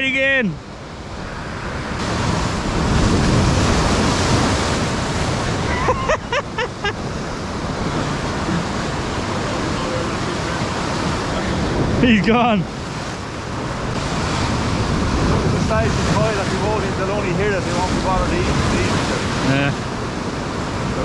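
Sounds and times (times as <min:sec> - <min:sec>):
sea surf breaking on rocks: 0:00.0 - 0:21.0.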